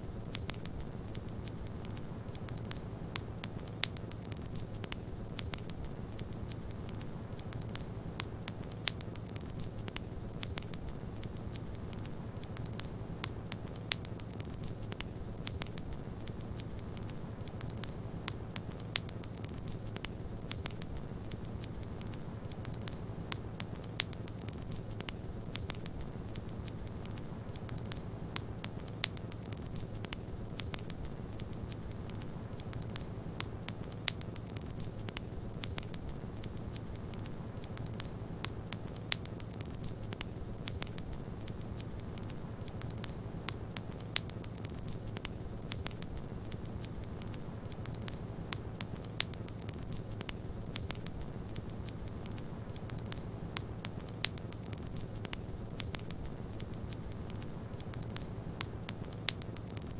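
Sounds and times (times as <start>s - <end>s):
wood fire crackling: 0.0s - 59.9s
sharp pops of fire: 0.2s - 59.9s.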